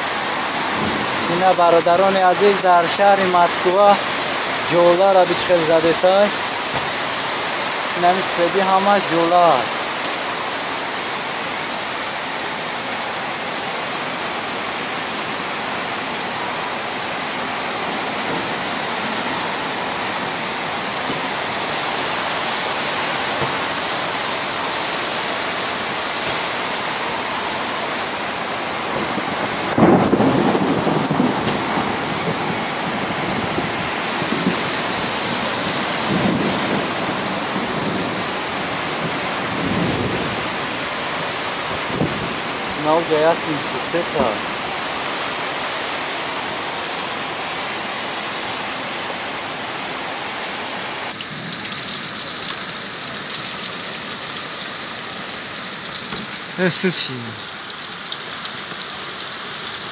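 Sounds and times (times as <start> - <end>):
heavy rain downpour: 0.0 - 59.9
wind: 0.0 - 59.9.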